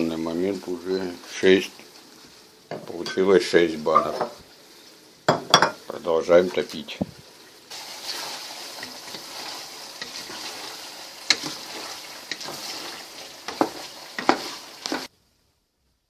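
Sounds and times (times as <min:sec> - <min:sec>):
fat sizzling in a pot: 0:00.0 - 0:16.0.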